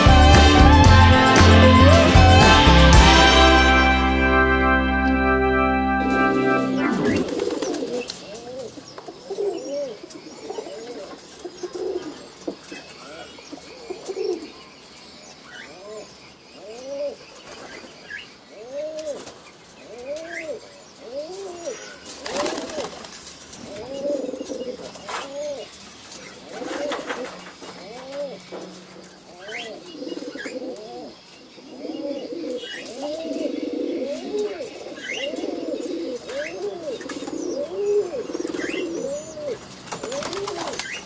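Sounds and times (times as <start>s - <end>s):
pigeons cooing: 6.4s - 14.6s, 15.5s - 17.9s, 18.5s - 41.0s.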